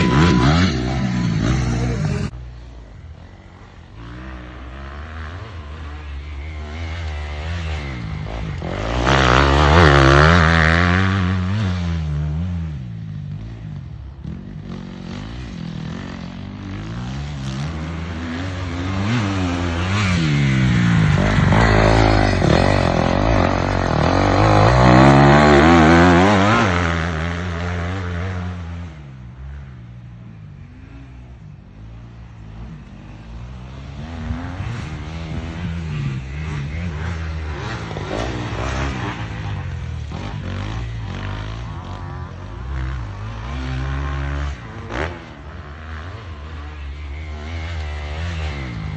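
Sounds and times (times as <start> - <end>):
dirt bike engine revving: 0.0 - 2.7, 3.3 - 29.7, 32.0 - 48.9.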